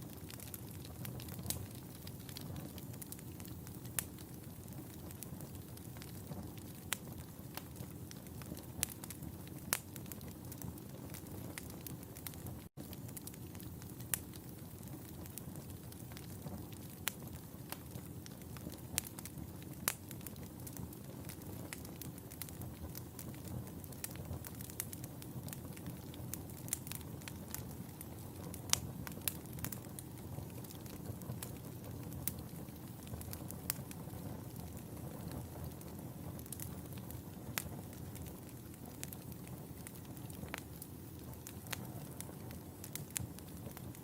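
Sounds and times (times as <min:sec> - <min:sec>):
wood fire burning and crackling: 0:00.0 - 0:44.0.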